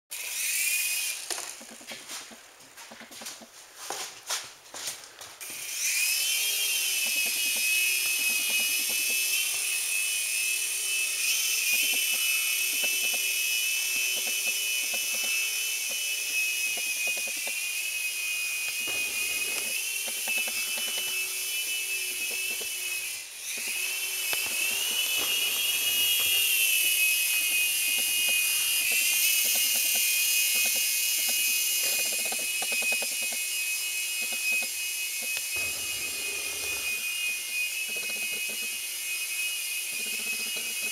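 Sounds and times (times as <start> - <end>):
toy helicopter rotor whining: 0.1 - 3.5, 5.4 - 40.9.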